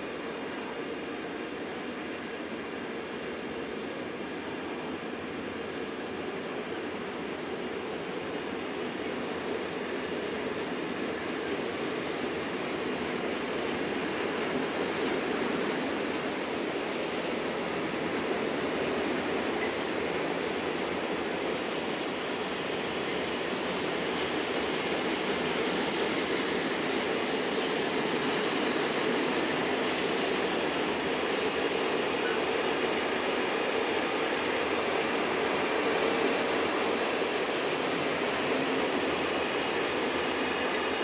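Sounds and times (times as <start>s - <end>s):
train wheels rolling on rails: 0.0s - 41.0s.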